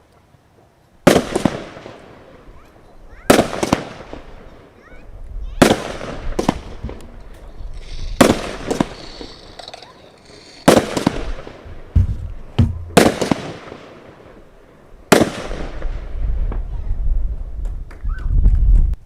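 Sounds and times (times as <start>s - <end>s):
firework bangs: 1.0s - 16.9s
high firework crackle: 1.0s - 18.0s.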